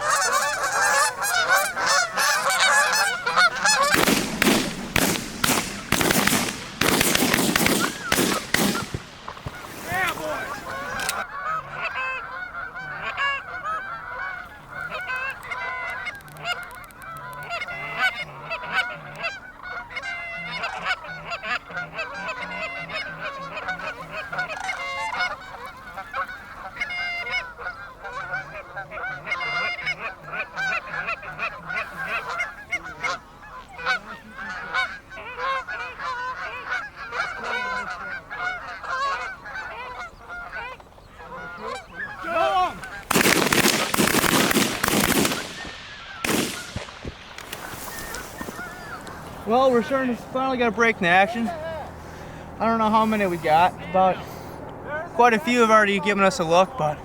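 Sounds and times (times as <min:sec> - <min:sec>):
geese honking: 0:00.0 - 0:57.0.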